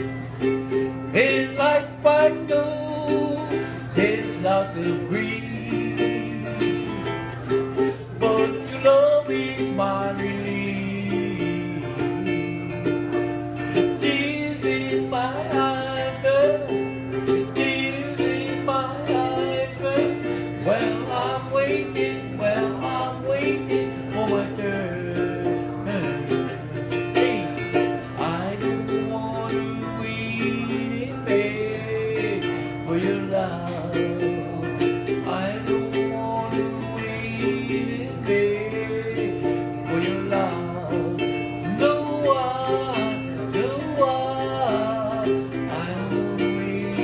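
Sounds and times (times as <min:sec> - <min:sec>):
man singing: 0:00.0 - 0:47.0
ukulele strumming: 0:00.0 - 0:47.0.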